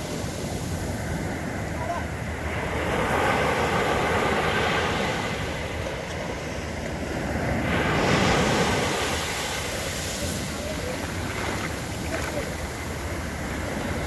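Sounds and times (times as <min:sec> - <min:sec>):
sea surf washing onto beach: 0:00.0 - 0:14.0.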